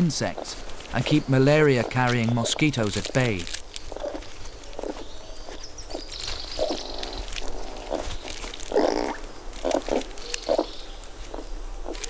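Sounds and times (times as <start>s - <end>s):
lemur making low sounds: 0.0s - 12.0s.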